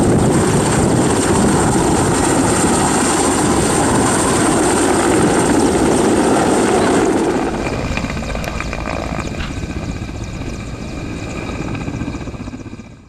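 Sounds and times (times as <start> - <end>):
helicopter rotor blade chop: 0.0 - 13.0
high turbine whine: 0.0 - 13.0.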